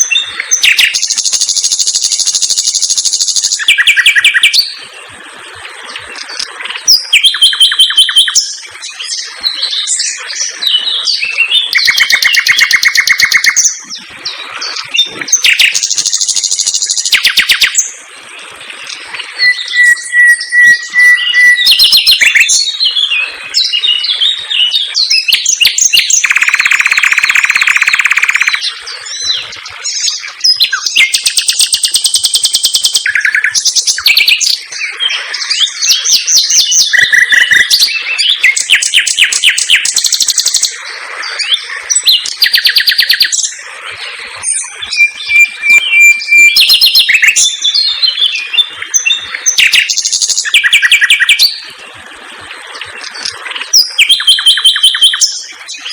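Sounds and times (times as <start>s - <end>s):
nightingale singing: 0.0s - 4.8s, 6.6s - 18.0s, 18.9s - 43.6s, 44.4s - 51.7s, 53.0s - 55.9s.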